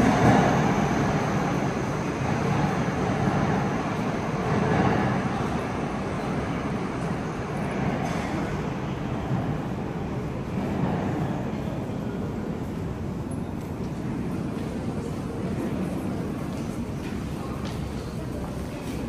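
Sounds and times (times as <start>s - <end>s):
metro train rumble: 0.0s - 19.0s.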